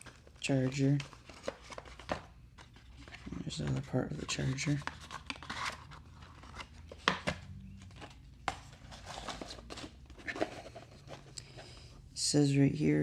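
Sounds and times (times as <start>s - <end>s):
box and contents handled: 0.0s - 12.0s.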